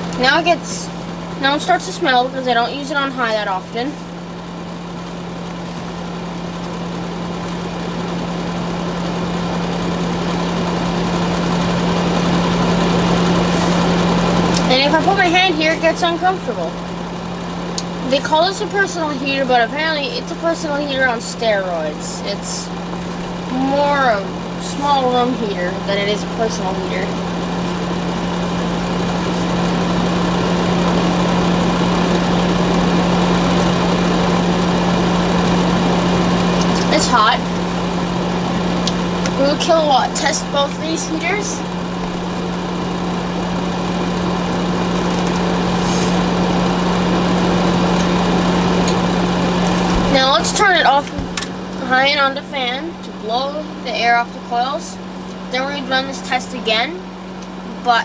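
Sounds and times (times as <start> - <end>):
fan heater running: 0.0 - 58.0.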